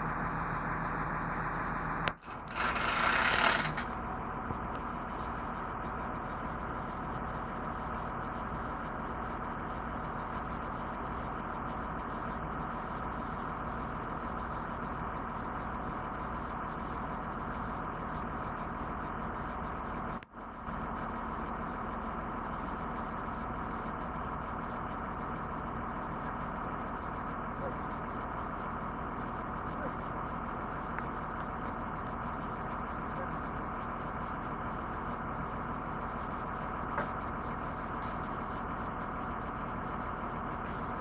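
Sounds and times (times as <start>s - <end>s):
truck engine idling: 0.0s - 41.0s.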